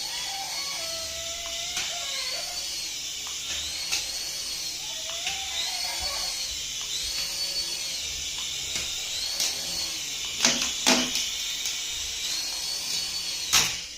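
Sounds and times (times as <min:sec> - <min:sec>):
toy electric motor whine: 0:00.0 - 0:13.9.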